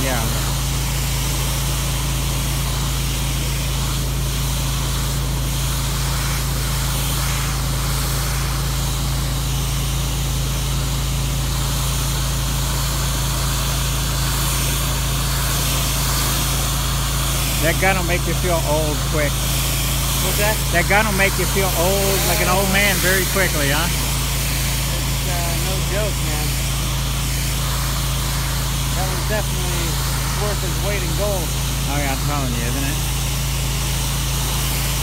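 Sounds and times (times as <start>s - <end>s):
pressure washer engine humming: 0.0s - 35.0s
water spray hissing on asphalt: 0.0s - 35.0s.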